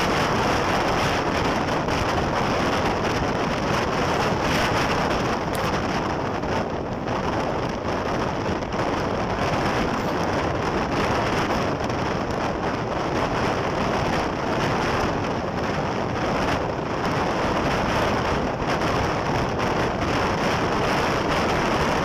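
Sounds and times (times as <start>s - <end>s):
car road noise at highway speed: 0.0s - 22.0s
rushing wind: 0.0s - 22.0s
wind buffeting microphone: 0.0s - 22.0s.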